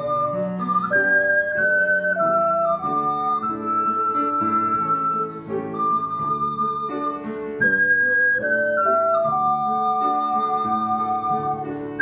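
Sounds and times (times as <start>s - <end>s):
ocarina duet: 0.0s - 12.0s.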